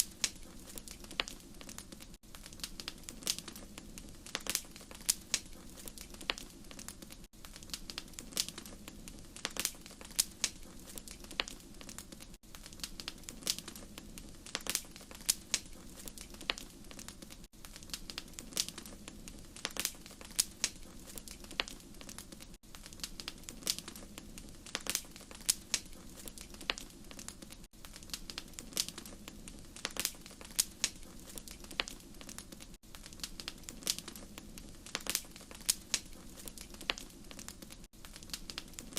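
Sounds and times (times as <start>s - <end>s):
sharp pops and snaps: 0.0s - 38.9s
wood fire crackling: 0.0s - 38.9s.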